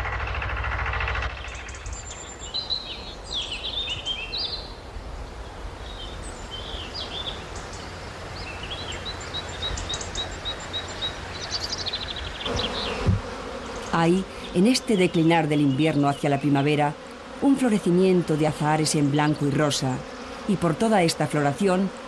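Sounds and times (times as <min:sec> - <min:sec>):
songbirds singing: 0:00.2 - 0:22.0.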